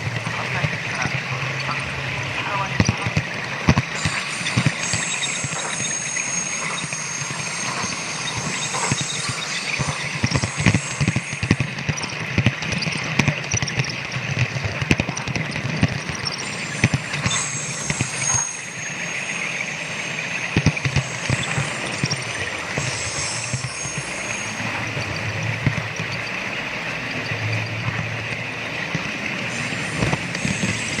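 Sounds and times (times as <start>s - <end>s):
high thin whine: 0.3s - 13.0s, 15.9s - 31.0s.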